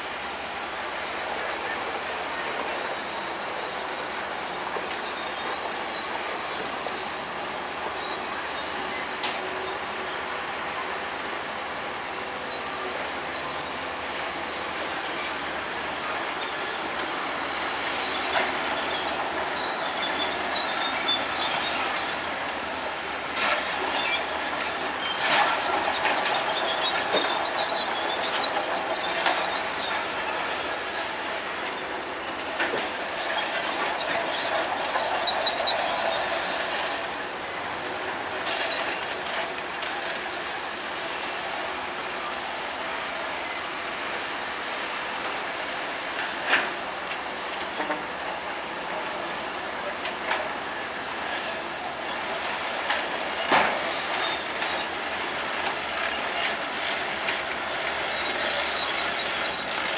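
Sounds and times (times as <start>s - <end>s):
bulldozer tracks clanking and squealing: 0.0s - 59.9s.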